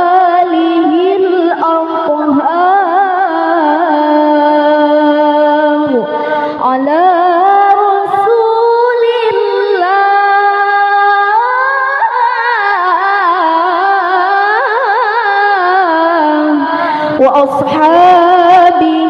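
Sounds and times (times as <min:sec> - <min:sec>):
woman singing into microphone: 0:00.0 - 0:19.0.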